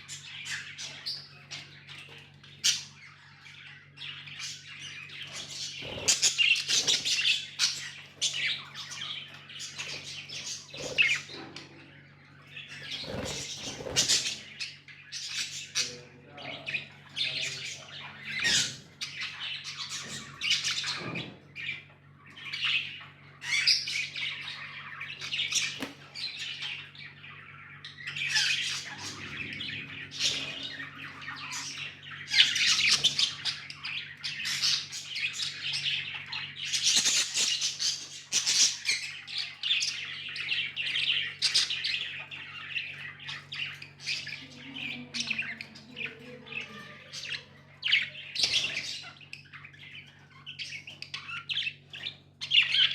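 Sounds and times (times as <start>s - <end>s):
budgerigars chirping: 0.0s - 52.9s.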